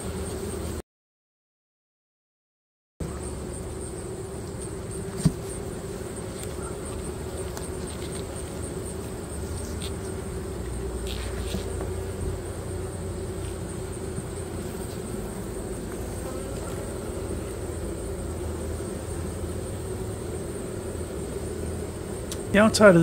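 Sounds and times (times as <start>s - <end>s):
honey bees buzzing: 0.0s - 0.8s, 3.0s - 23.0s.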